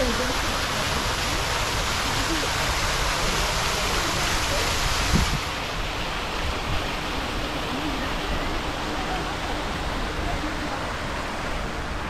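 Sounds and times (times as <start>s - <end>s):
fountain water splashing into basin: 0.0s - 12.0s.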